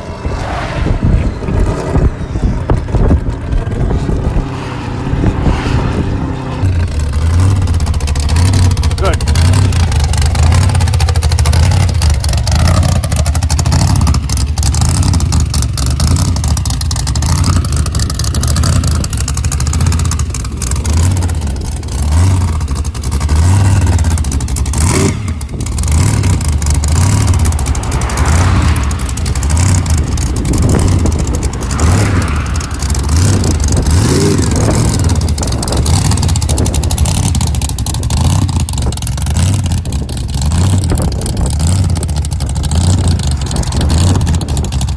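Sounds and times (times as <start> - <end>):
dragster engine throbbing: 0.0 - 44.9.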